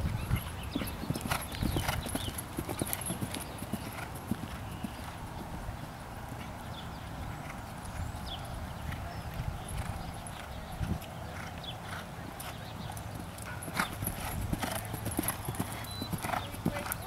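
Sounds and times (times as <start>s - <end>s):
horse hoofbeats on grass: 0.0s - 6.8s, 7.4s - 17.0s.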